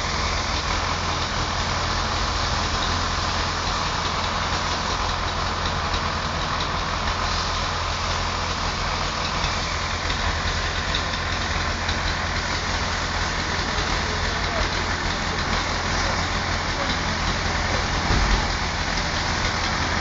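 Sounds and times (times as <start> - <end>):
heavy machinery engine running: 0.0 - 20.0.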